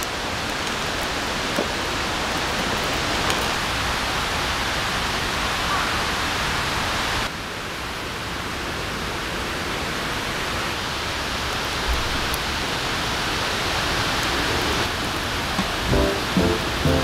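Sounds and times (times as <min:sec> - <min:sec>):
rushing outdoor noise in woods: 0:00.0 - 0:17.0.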